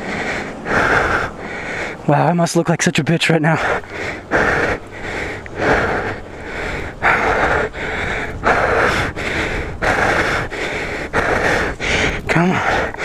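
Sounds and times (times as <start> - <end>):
man breathing heavily: 0.0 - 2.2, 3.4 - 13.0.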